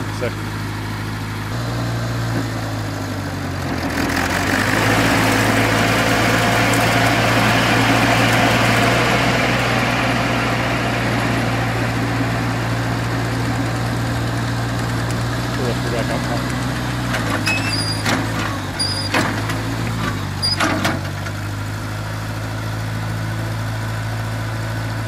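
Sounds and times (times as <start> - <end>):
tractor engine running: 0.0 - 25.0
mower blade whirring: 0.5 - 21.4.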